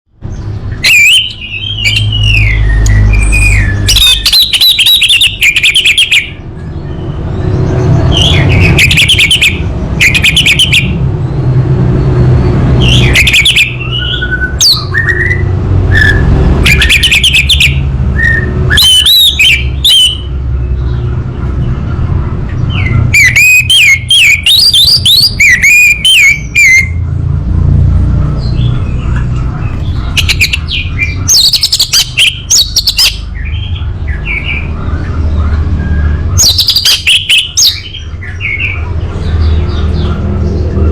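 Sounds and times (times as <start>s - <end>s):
thrush singing whistles and trills: 0.2s - 21.3s, 22.1s - 27.2s, 28.4s - 40.9s.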